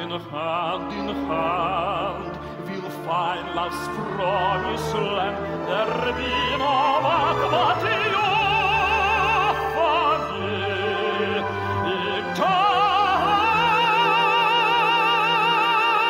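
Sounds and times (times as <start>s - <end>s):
man singing opera: 0.0s - 16.0s
symphony orchestra: 0.0s - 16.0s.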